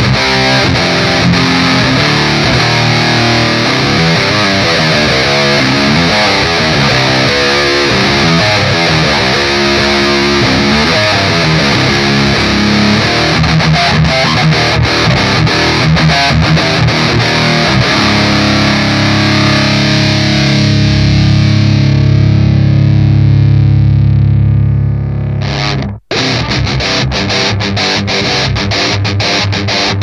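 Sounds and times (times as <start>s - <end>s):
distorted electric guitar riff: 0.0s - 30.0s.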